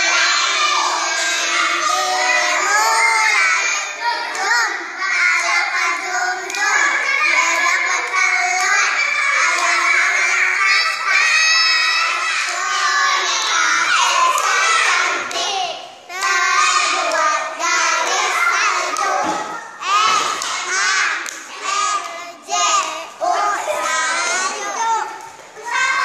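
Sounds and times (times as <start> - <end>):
children singing a chanted rhyme: 0.0 - 26.0.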